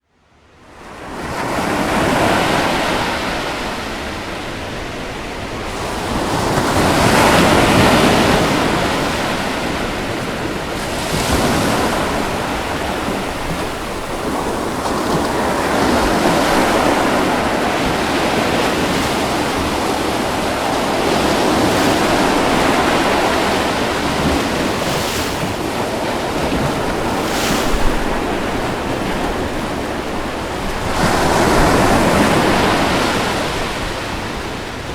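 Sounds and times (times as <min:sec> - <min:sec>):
ocean waves washing onto beach: 0:00.7 - 0:34.9
wind on microphone: 0:01.7 - 0:34.9.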